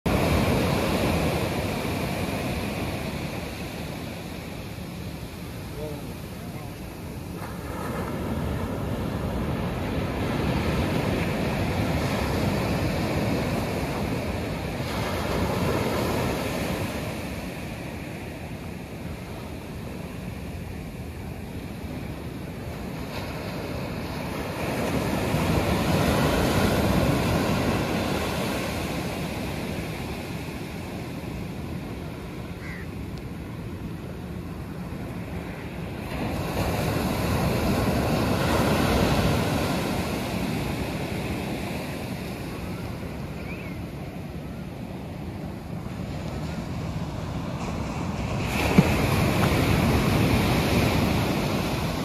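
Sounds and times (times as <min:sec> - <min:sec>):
sea waves breaking on beach: 0:00.1 - 0:52.0.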